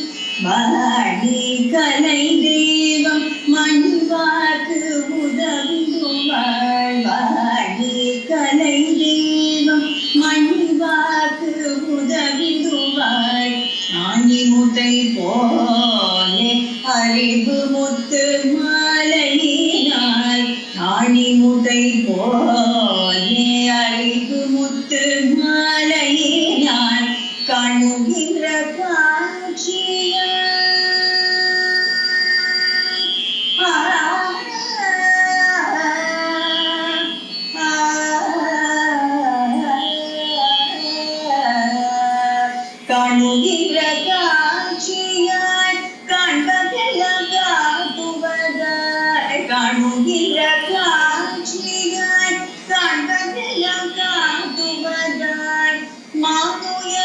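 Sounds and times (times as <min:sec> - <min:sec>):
high voice singing devotional song: 0:00.0 - 0:57.0.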